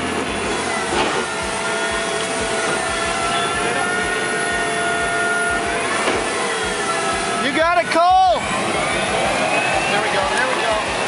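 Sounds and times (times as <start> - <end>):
tracked vehicle engine whine: 0.0 - 11.0.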